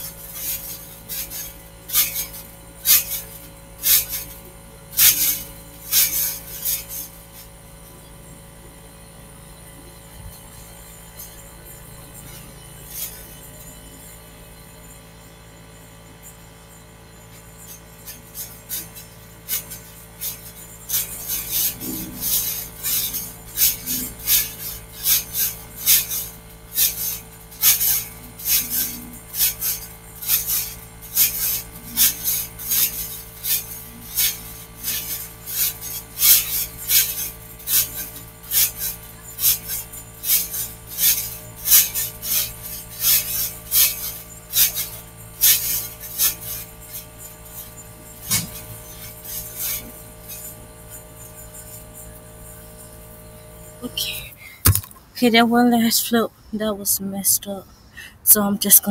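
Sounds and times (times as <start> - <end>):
trampoline springs swishing: 0.0 - 58.9.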